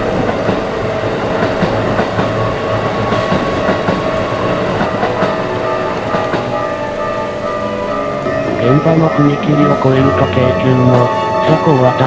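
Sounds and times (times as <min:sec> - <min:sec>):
wheels clicking over rail joints: 0:00.0 - 0:10.0
electric train running past: 0:00.0 - 0:12.0.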